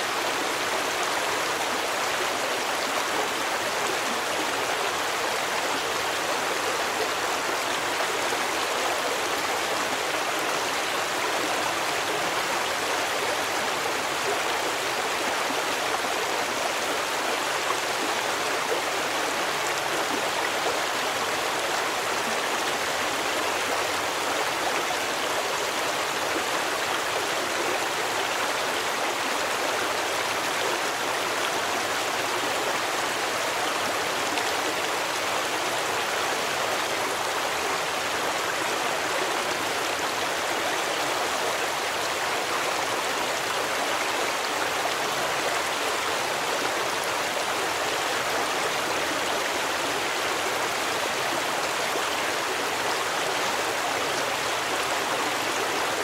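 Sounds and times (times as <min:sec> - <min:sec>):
stream water over rocks: 0:00.0 - 0:56.0.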